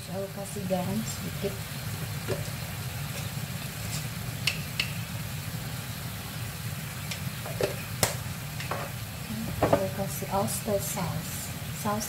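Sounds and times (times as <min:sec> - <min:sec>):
water bubbling in a frying pan: 0:00.0 - 0:12.0.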